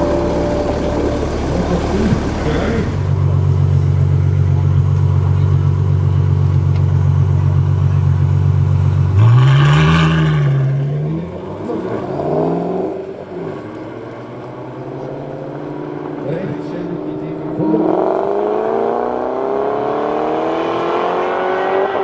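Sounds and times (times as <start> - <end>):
sports car engine accelerating: 0.0 - 22.0.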